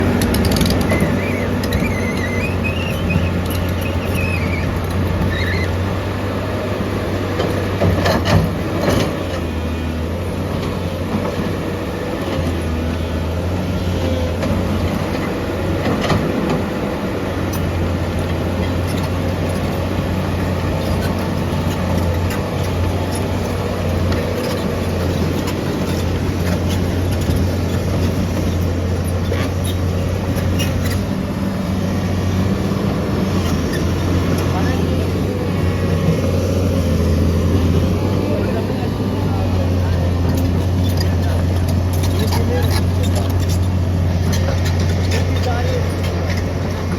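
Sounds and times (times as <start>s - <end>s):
diesel construction machinery humming: 0.0s - 46.9s.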